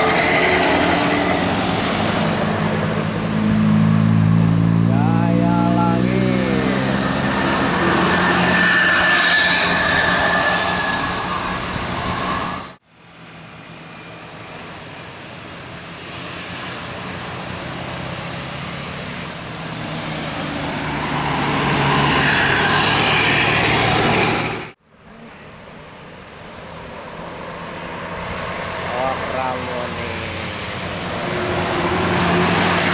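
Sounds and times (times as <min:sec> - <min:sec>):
vehicles passing on road: 0:00.0 - 0:32.9.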